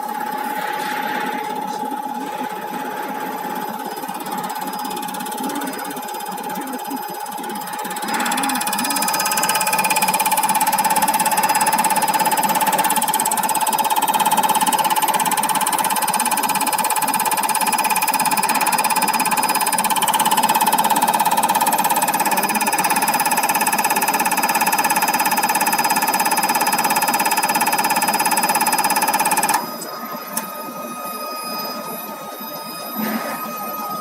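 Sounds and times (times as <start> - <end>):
injector rapid pulsing: 0.0 - 34.0
test bench whine: 0.0 - 34.0.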